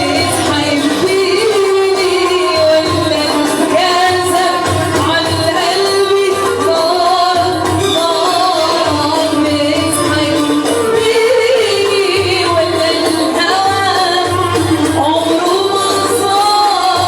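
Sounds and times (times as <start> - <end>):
instrumental backing with drum beat: 0.0 - 17.0
woman singing: 0.0 - 17.0.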